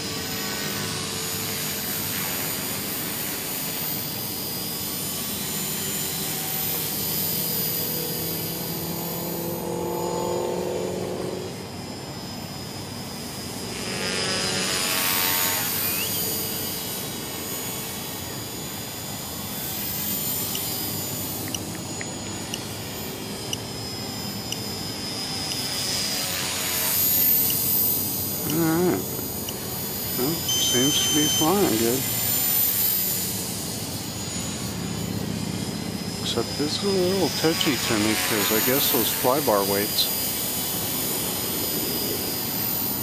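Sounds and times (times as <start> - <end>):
rc helicopter motor whine: 0.0 - 43.0
rotor blade noise: 0.0 - 43.0.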